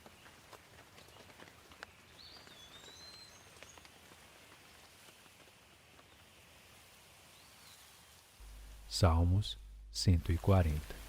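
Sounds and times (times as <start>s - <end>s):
faint steady rain: 0.0s - 11.0s.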